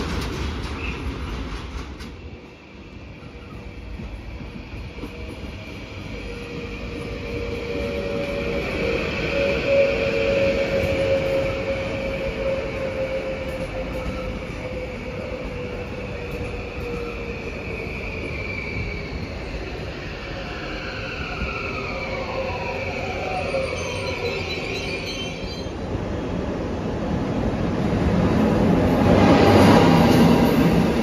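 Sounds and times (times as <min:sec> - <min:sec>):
passenger train rumble: 0:00.0 - 0:31.0
second train rumble: 0:00.0 - 0:31.0.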